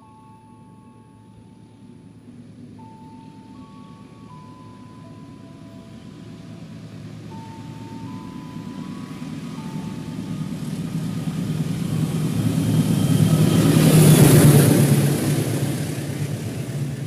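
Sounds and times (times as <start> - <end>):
locomotive engine drone: 0.0 - 17.0
train wheels on track: 0.0 - 17.0.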